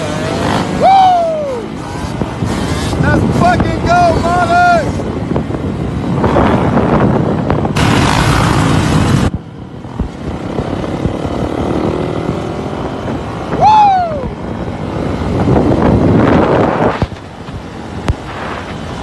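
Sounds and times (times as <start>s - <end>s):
vehicle engine and road noise: 0.0s - 19.0s
wind buffeting on microphone: 0.0s - 19.0s.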